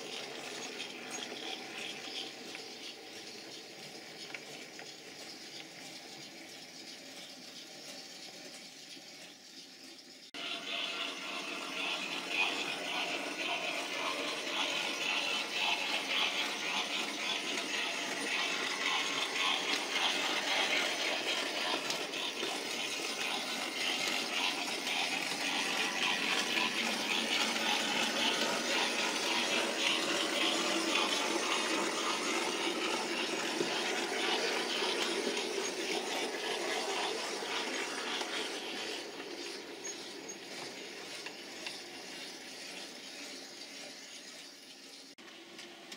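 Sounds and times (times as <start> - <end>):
model train whirring on track: 0.0 - 45.9.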